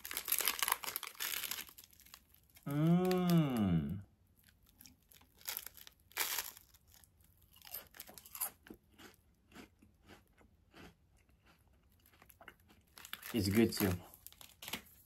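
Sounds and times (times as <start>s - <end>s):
person crunching a biscuit: 0.0s - 15.0s.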